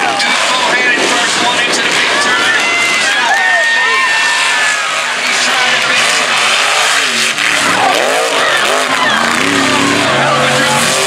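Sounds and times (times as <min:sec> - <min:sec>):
tires throwing dirt: 0:00.0 - 0:11.0
truck engine revving: 0:00.0 - 0:11.0.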